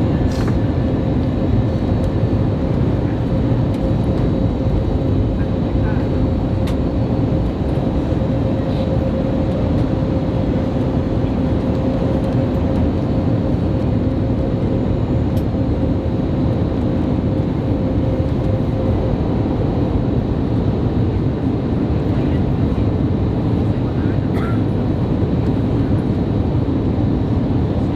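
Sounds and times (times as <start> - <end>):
airplane cabin engine and airflow noise: 0.0 - 27.9.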